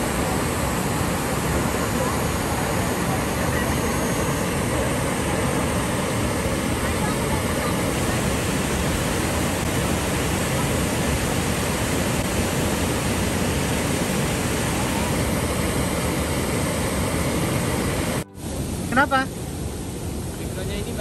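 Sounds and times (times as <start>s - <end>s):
fast-flowing water rushing: 0.0s - 21.0s.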